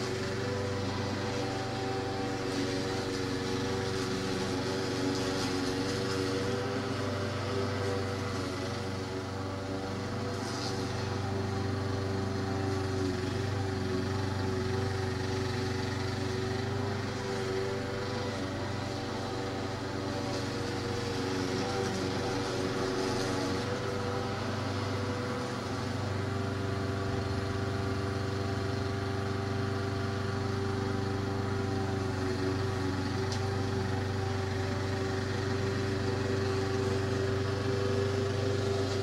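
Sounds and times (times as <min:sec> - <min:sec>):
motor running steadily: 0:00.0 - 0:39.0.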